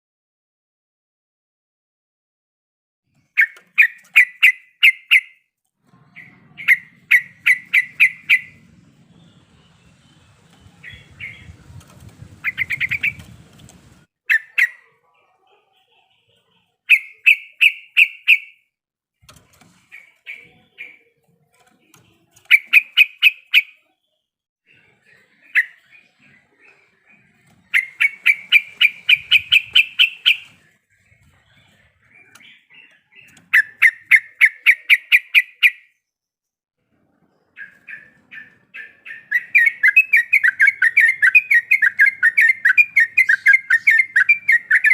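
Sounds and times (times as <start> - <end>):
bulbul chattering song: 3.2 - 5.4, 6.2 - 18.7, 19.8 - 21.2, 22.1 - 24.1, 24.7 - 36.0, 37.5 - 44.9.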